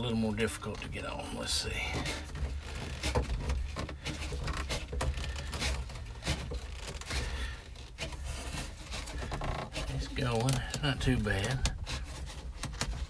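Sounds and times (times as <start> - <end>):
hose scraping on plastic: 0.0 - 13.0.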